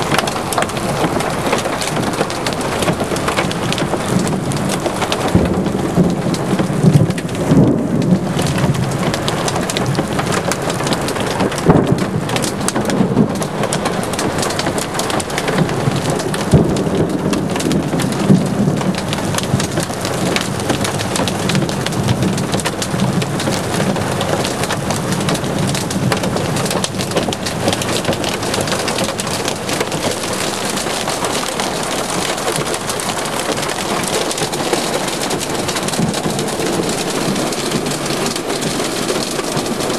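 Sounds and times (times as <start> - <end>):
hailstones ticking: 0.0 - 39.9
heavy rain downpour: 0.0 - 39.9.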